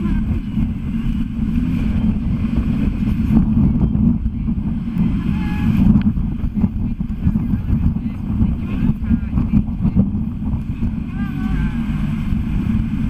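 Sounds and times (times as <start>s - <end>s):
city traffic rumble: 0.0s - 13.0s
wind buffeting microphone: 0.0s - 13.0s.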